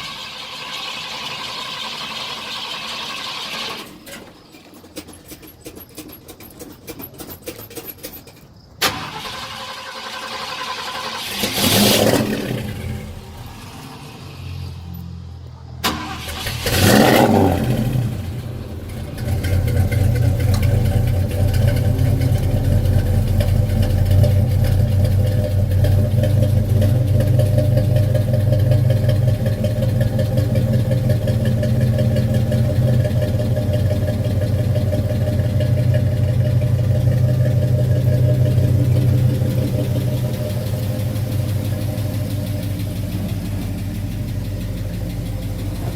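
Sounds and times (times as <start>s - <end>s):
truck engine starting and running: 0.0s - 45.9s.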